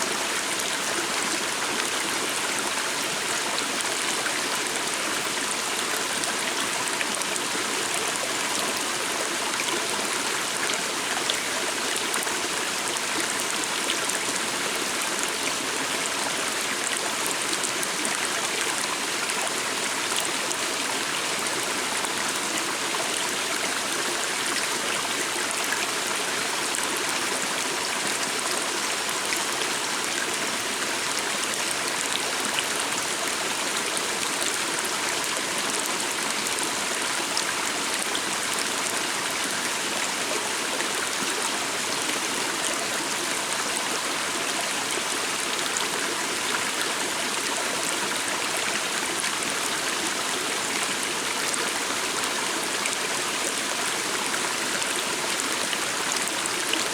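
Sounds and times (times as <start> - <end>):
stream of water trickling: 0.0 - 56.9.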